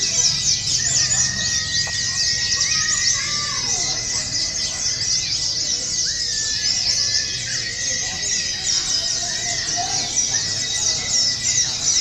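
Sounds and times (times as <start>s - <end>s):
many small birds twittering: 0.0s - 12.0s
murmur of voices: 0.0s - 12.0s.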